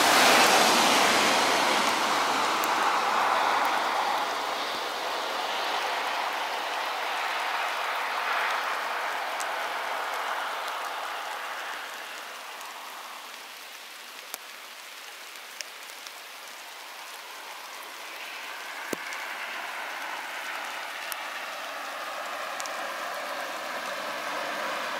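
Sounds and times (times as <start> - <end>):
raindrops ticking close by: 0.0 - 24.9
steady rain falling: 0.0 - 24.9.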